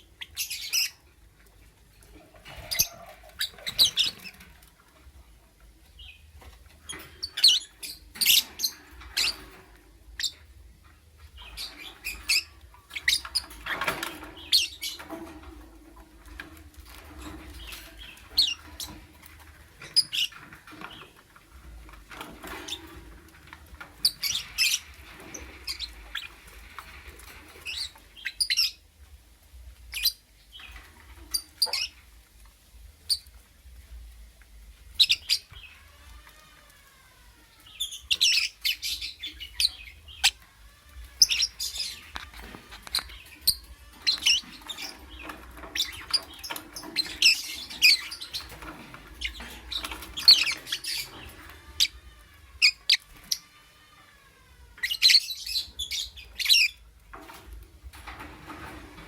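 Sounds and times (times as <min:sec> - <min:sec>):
rustling: 0:00.2 - 0:59.0.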